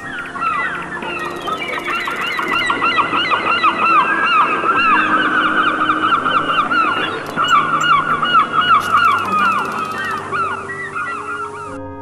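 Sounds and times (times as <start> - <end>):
many birds calling: 0.0 - 11.9.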